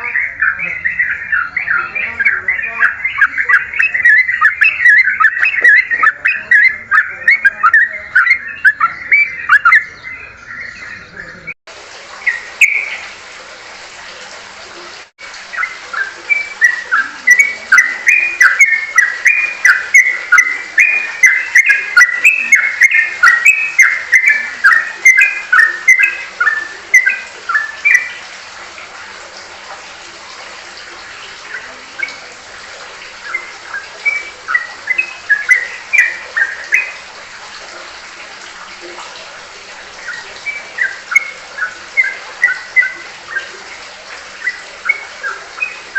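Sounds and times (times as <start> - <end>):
songbird chirping: 0.0 - 11.6, 12.2 - 13.2, 14.8 - 28.9, 30.5 - 45.9.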